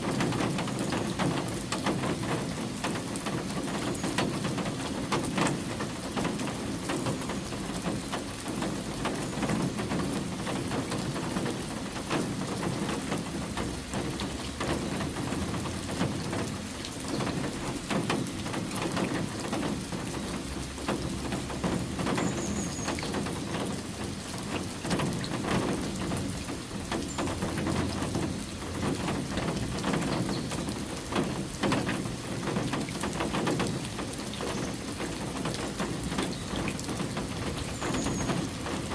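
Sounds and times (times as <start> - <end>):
raindrop hits: 0.0 - 38.9
steady rain falling: 0.0 - 38.9.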